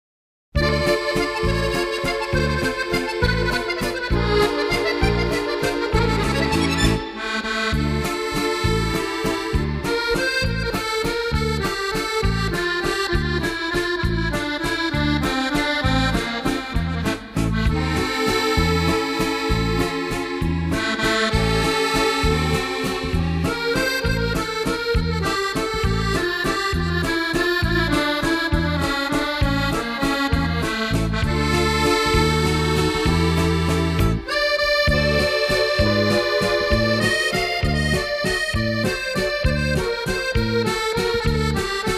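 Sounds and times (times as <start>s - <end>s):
accordion music: 0.6s - 41.9s
rhythmic bass accompaniment: 0.6s - 41.9s.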